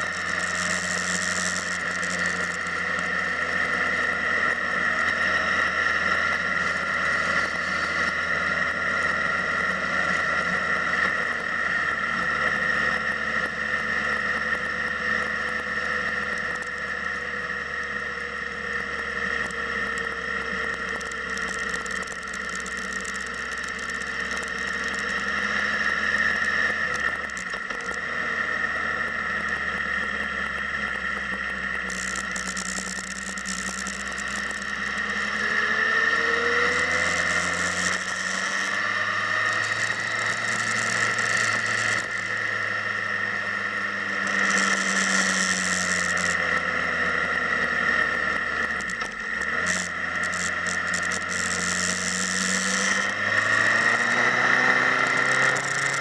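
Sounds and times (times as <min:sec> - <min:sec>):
motorcycle engine running: 0:00.0 - 0:56.0
steady high whine: 0:00.0 - 0:56.0.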